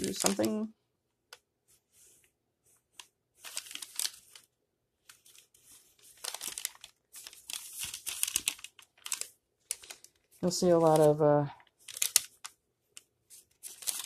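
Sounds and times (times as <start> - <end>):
plastic packaging crinkling: 0.0 - 0.7, 3.4 - 14.0.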